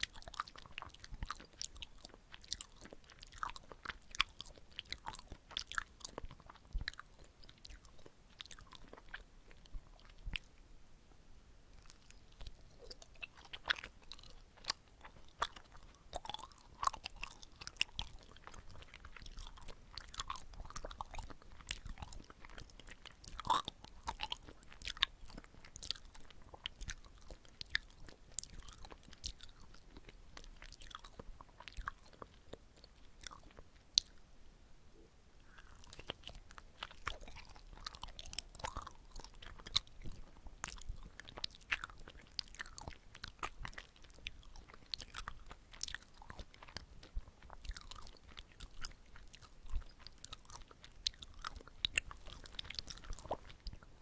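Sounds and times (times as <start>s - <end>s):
chewing with wet mouth clicks: 0.0s - 10.6s, 11.8s - 34.2s, 35.4s - 54.0s.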